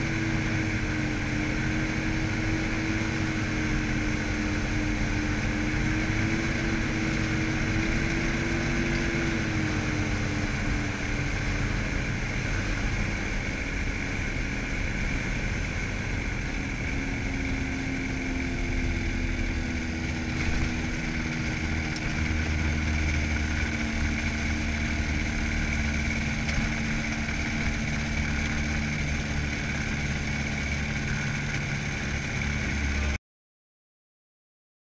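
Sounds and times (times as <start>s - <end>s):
light aircraft engine and propeller: 0.0s - 33.2s.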